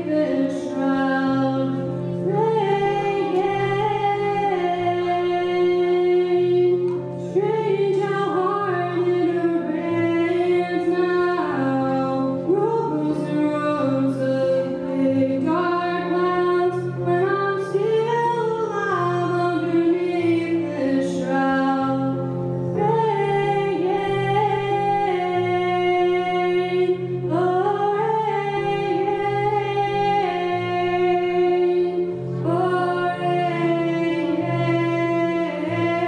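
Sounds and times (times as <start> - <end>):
sustained instrumental chords: 0.0 - 36.0
young woman singing: 0.0 - 36.0.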